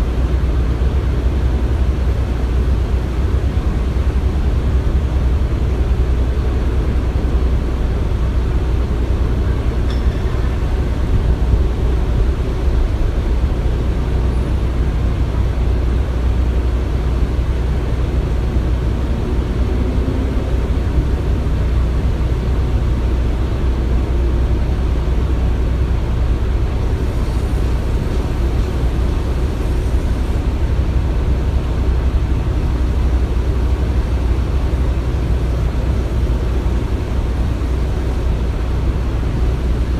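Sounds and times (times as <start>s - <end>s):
construction machinery rumbling: 0.0s - 39.9s.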